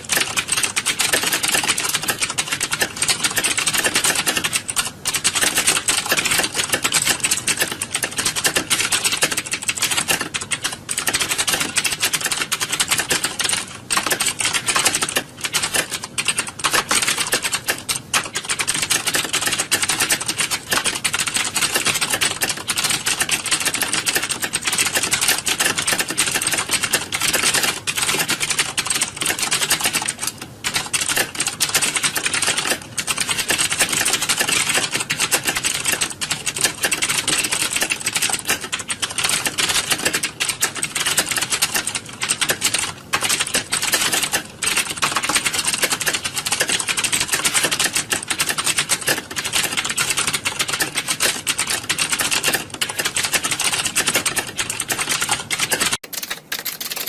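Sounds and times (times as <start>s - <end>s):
keyboards clattering: 0.0s - 57.0s.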